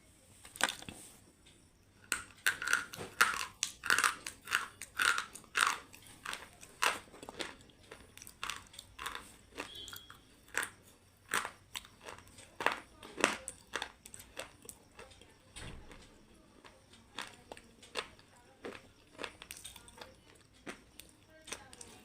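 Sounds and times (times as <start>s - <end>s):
person chewing crunchy food: 0.5s - 1.2s, 2.0s - 22.0s.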